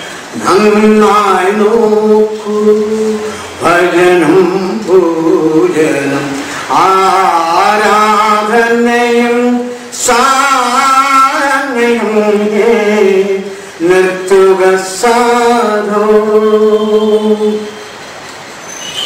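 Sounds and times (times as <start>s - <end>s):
man singing a slow chant: 0.2s - 17.8s.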